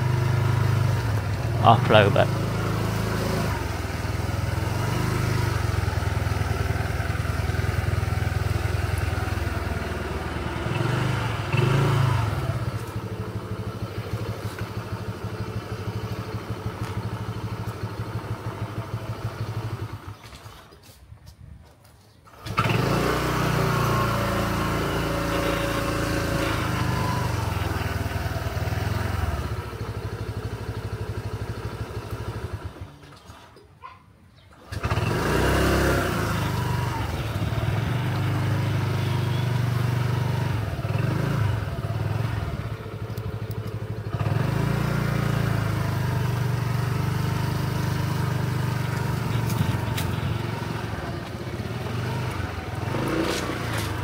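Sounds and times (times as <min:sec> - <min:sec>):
small engine revving: 0:00.0 - 0:20.8, 0:22.3 - 0:33.6, 0:34.5 - 0:54.0.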